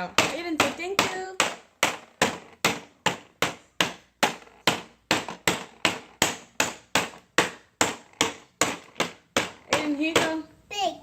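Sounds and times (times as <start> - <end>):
toy hammer knocking on wood: 0.0 - 10.4.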